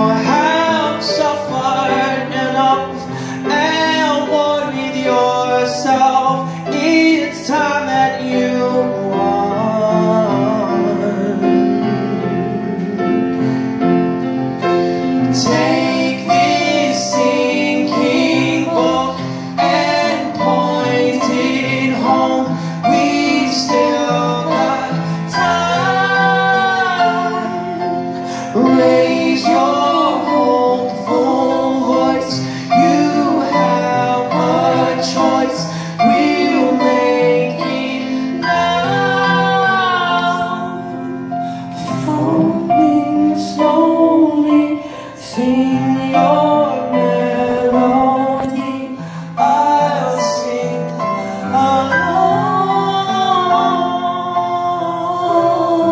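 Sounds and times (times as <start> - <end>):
piano accompaniment: 0.0 - 55.9.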